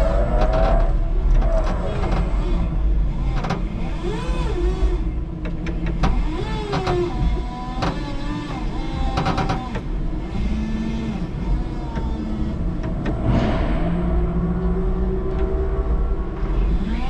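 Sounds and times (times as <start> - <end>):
steady low hum: 0.0 - 17.0
sharp clicks and knocks: 0.1 - 16.6.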